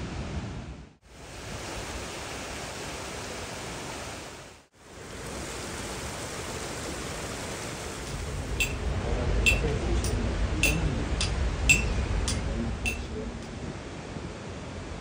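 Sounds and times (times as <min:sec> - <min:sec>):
river water rushing: 0:01.1 - 0:15.0.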